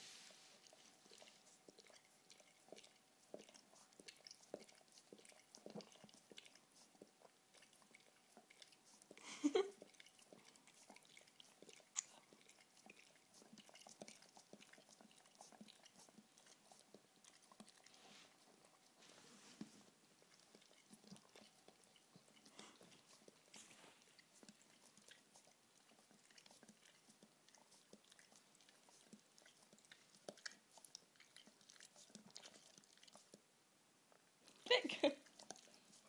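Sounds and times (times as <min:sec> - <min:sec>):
dog licking and smacking mouth: 0:00.3 - 0:33.5, 0:34.4 - 0:36.0.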